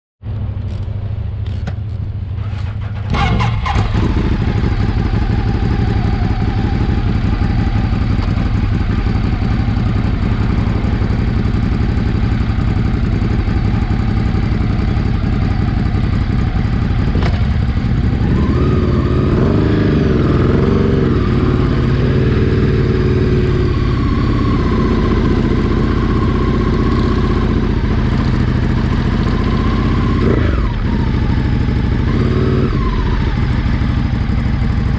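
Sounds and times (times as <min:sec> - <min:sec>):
engine running: 0:00.2 - 0:34.9.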